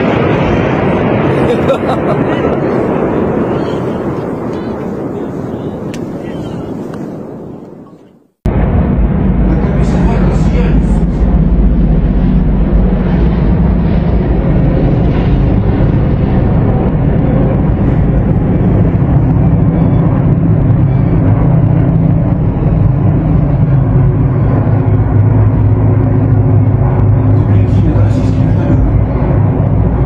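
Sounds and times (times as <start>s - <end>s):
helicopters flying low: 0.0s - 30.0s.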